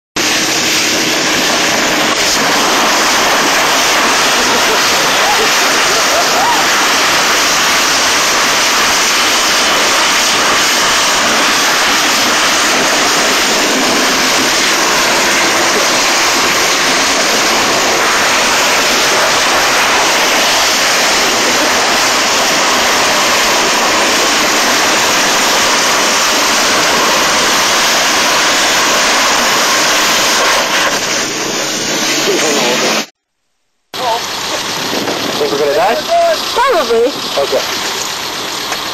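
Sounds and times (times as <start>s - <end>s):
wind and road noise: 0.2s - 33.1s, 34.0s - 38.9s.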